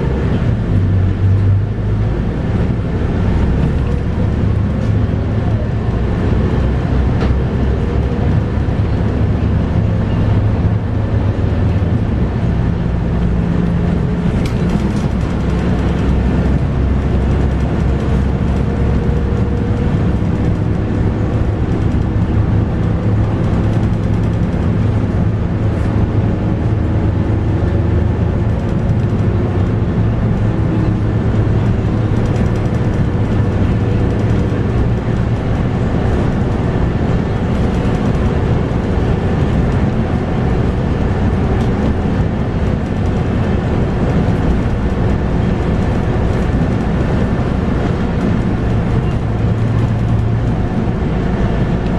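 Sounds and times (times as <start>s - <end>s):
bus diesel engine rumbling: 0.0s - 51.9s.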